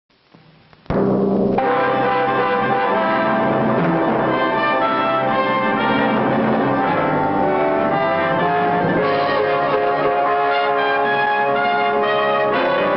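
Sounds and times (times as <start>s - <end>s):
orchestral music with brass and timpani: 1.5s - 12.9s.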